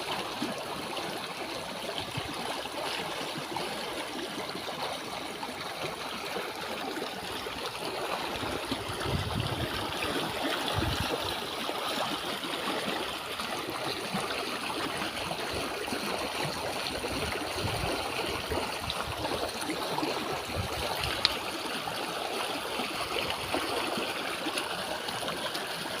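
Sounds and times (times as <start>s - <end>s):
floodwater rushing along stream: 0.0s - 26.0s.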